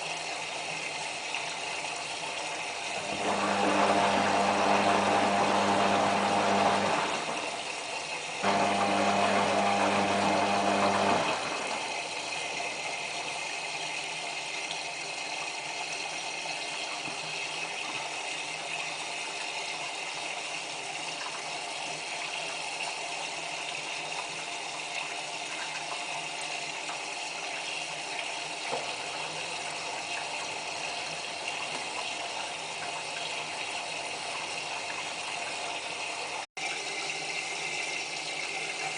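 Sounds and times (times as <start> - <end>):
water running into washing machine: 0.0 - 38.9.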